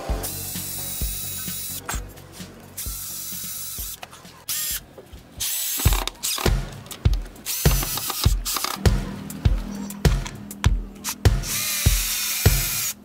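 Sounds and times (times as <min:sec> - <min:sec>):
music with thumping beat: 0:00.0 - 0:04.0, 0:05.9 - 0:13.0.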